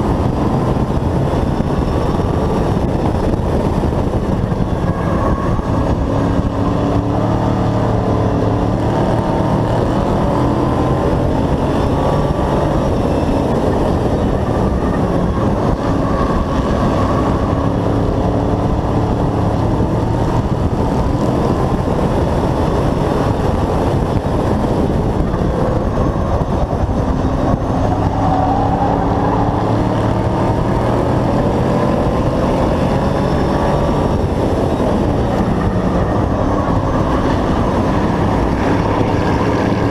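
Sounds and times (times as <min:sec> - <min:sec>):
race truck engine running hard: 0:00.0 - 0:39.9
road noise: 0:00.0 - 0:39.9
wind noise: 0:00.0 - 0:39.9.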